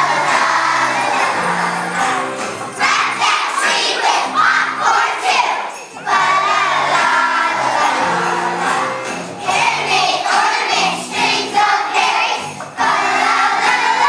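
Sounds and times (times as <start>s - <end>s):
backing music: 0.0s - 14.0s
children singing together: 0.0s - 14.0s.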